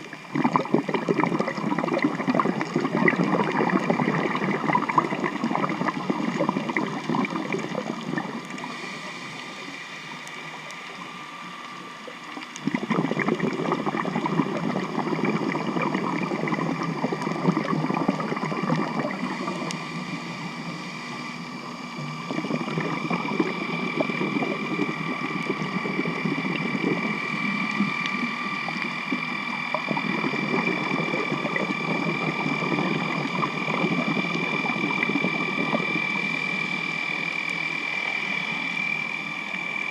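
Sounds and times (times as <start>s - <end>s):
noisy underwater rushing: 0.0s - 39.9s
underwater boat engine whine: 0.0s - 39.9s.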